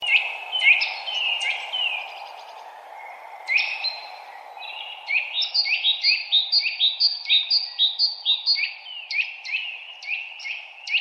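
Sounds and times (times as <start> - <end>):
low background hiss: 0.0 - 10.6
songbirds chirping: 0.0 - 11.0.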